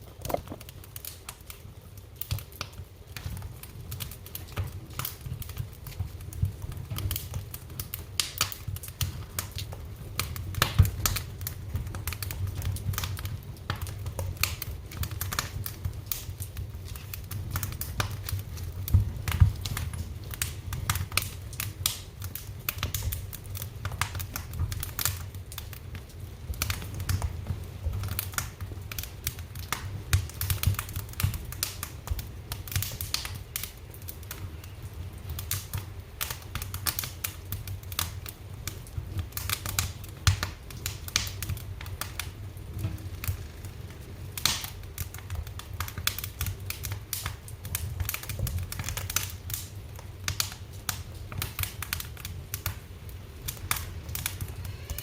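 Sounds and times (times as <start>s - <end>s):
low rumble of flames: 0.0s - 55.0s
wood fire crackling: 0.0s - 55.0s.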